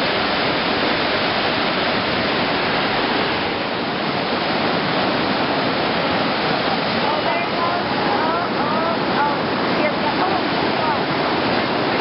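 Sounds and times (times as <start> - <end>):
waterfall pounding onto rocks: 0.0 - 12.0.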